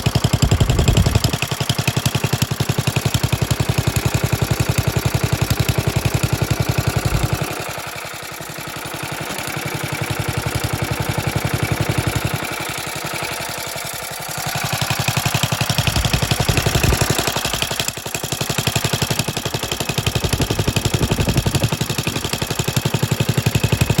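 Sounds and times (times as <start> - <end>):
stationary engine exhaust beat: 0.0 - 24.0.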